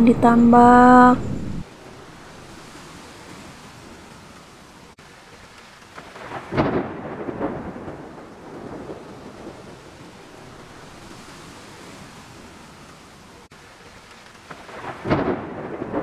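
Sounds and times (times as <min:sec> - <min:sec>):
heavy rain on water: 0:01.6 - 0:16.0.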